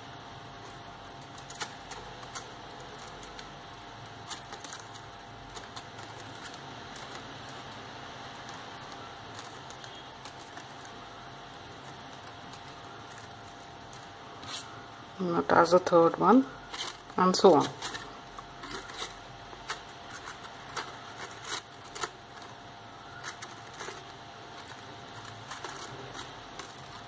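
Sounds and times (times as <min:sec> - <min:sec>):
faint hum: 0:00.0 - 0:27.0
paper rustling and crinkling: 0:00.6 - 0:14.8, 0:16.5 - 0:27.0.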